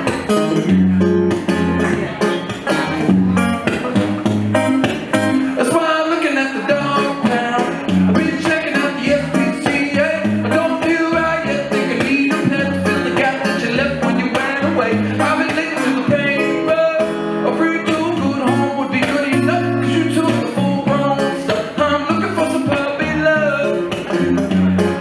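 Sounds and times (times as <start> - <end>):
electric guitar strummed: 0.0 - 25.0.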